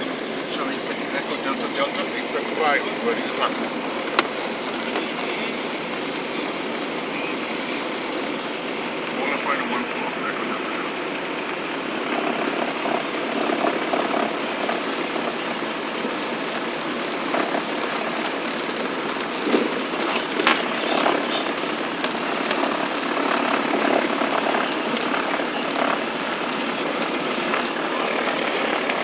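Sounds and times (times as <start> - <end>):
propeller aircraft engines from cabin: 0.0 - 29.0.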